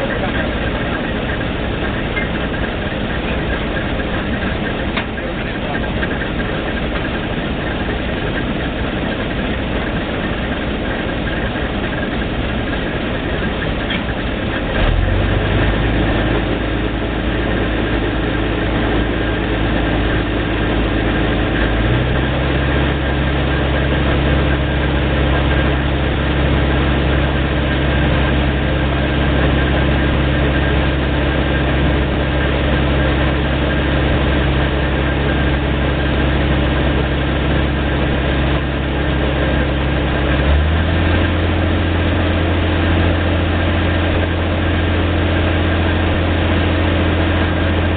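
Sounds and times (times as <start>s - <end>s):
deeper steady hum: 0.0s - 47.9s
drilling rig engine drone: 0.0s - 47.9s.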